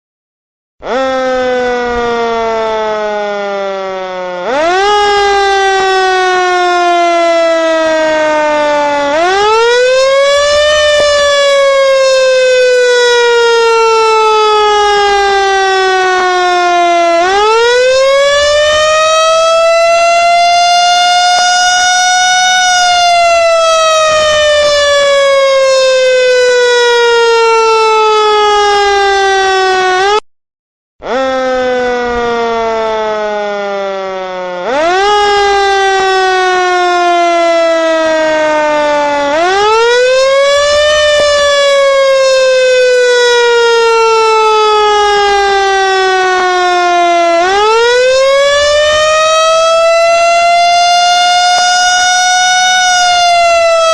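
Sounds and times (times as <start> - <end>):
siren wailing: 0.8 - 30.2, 31.0 - 53.9.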